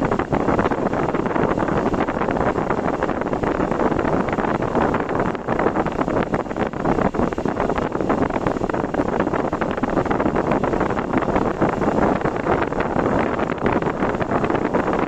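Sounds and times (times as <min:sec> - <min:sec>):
road and wind noise: 0:00.0 - 0:15.0
wind buffeting microphone: 0:00.0 - 0:15.0.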